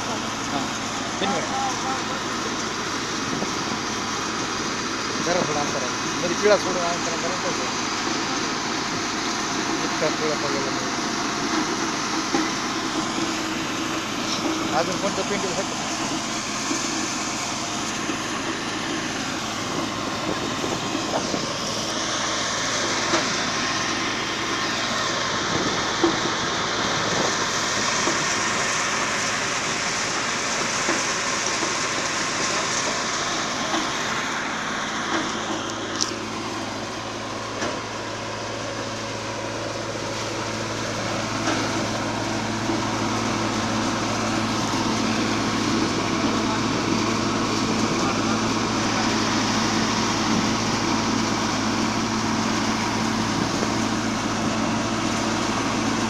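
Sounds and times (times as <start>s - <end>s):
tractor engine under load: 0.0s - 56.0s
wheat thresher running: 0.0s - 56.0s.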